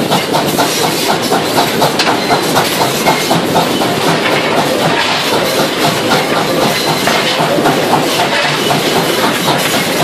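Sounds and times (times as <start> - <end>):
steam train chugging: 0.0 - 10.0.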